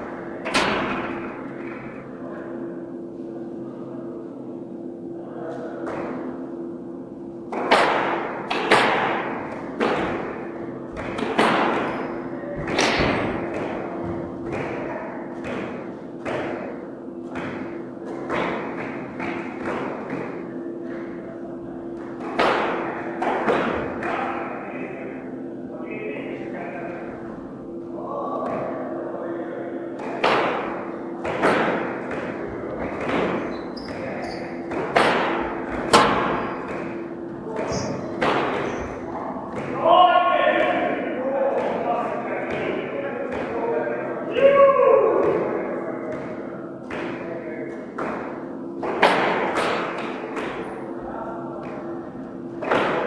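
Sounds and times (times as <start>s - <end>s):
squash ball hitting rackets and walls: 0.0s - 2.9s, 5.8s - 25.4s, 28.3s - 53.0s
steady low hum: 0.0s - 53.0s.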